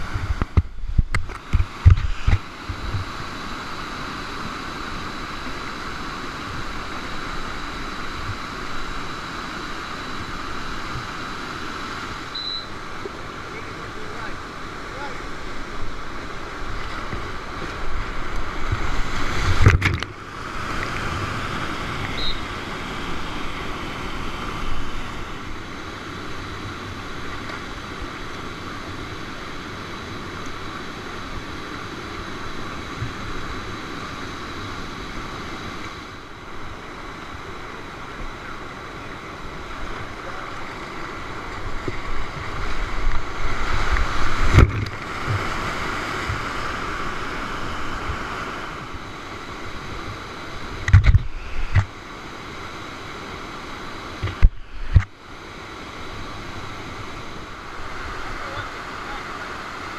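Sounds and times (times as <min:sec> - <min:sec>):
river rapids rushing: 0:01.4 - 0:59.9.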